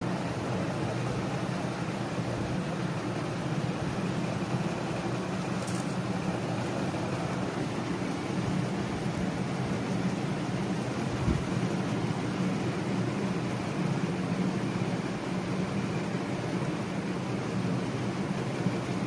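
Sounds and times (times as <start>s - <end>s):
steady hum with hiss: 0.0s - 19.0s.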